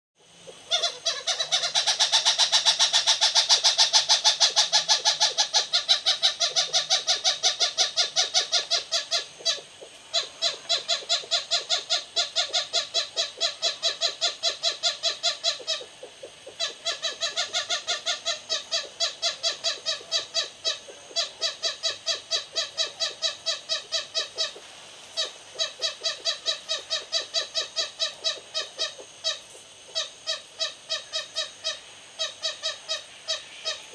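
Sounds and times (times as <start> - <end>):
bushbabies giving aggression calls: 0.4 - 33.9.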